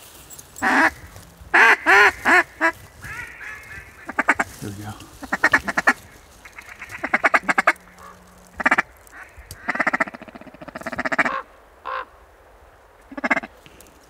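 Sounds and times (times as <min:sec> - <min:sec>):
ducks quacking: 0:00.6 - 0:12.1, 0:13.1 - 0:13.6.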